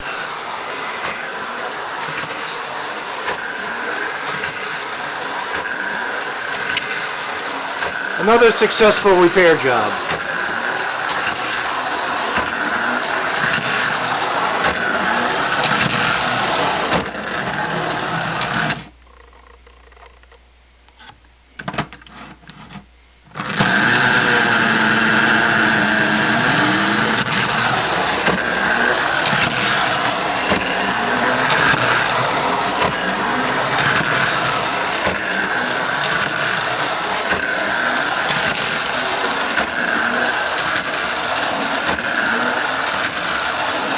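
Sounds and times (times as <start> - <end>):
toy train motor whirring: 0.0 - 20.2, 23.3 - 43.9.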